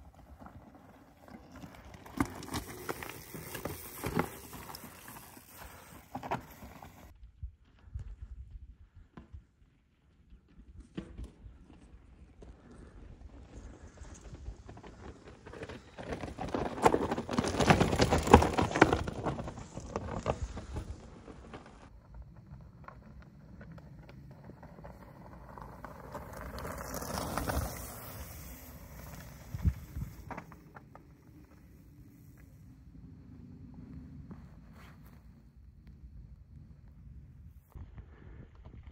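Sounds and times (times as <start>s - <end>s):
bike tyres crunching on gravel: 0.0s - 7.1s, 12.5s - 37.7s.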